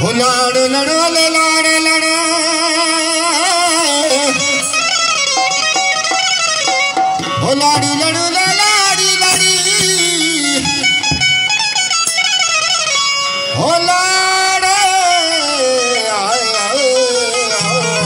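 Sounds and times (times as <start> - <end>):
instrumental folk music: 0.0 - 18.0
keyed banjo playing: 0.0 - 18.0.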